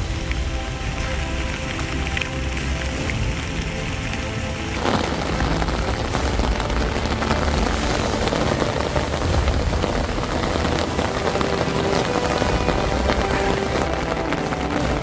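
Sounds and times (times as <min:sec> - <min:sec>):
deep low rumble: 0:00.0 - 0:15.0
heavy rain pouring: 0:00.0 - 0:15.0.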